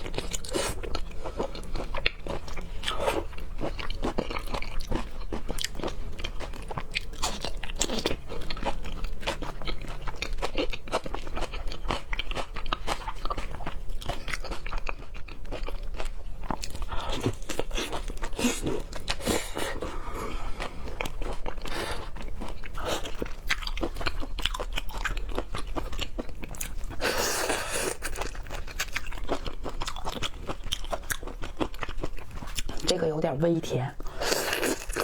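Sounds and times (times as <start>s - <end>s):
wet crunchy chewing: 0.0s - 33.0s, 34.0s - 35.0s.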